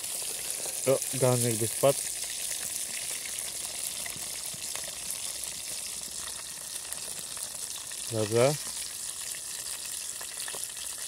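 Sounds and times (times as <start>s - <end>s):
chicken wings sizzling in pot: 0.0s - 11.0s.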